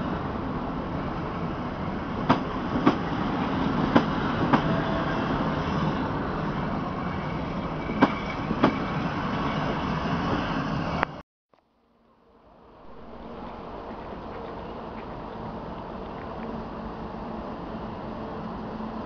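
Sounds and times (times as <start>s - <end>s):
train wheels rumbling on rail: 0.0s - 11.2s, 12.8s - 19.0s.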